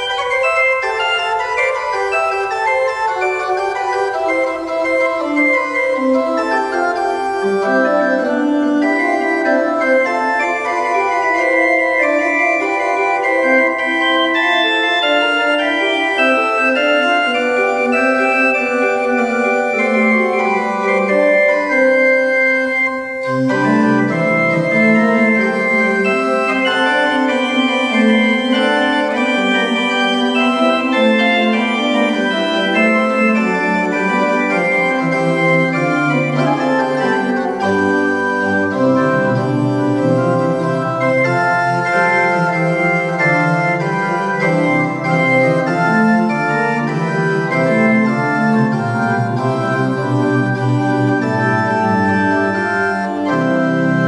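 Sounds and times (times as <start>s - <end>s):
organ playing: 0.0s - 54.0s.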